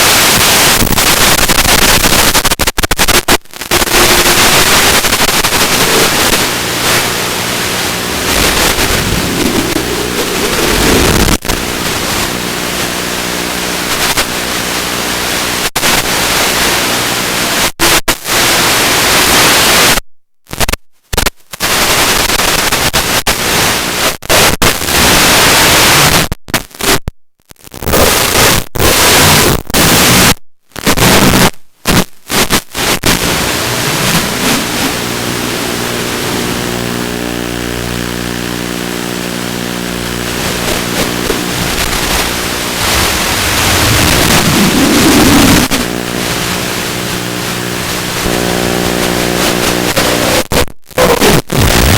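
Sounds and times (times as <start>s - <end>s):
static-like hiss: 0.0s - 51.9s.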